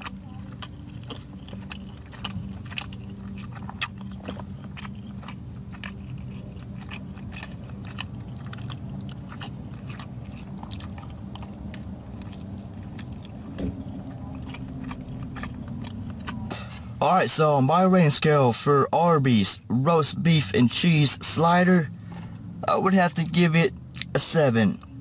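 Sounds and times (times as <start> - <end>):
person chewing food: 0.0 - 17.6, 20.2 - 25.0
steady low hum: 0.0 - 25.0.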